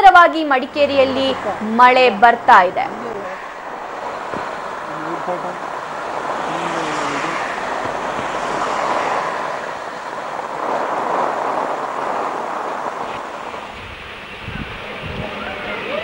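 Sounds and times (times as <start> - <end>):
cars driving on wet road: 0.0 - 16.0
torrential rain pouring: 0.0 - 16.0.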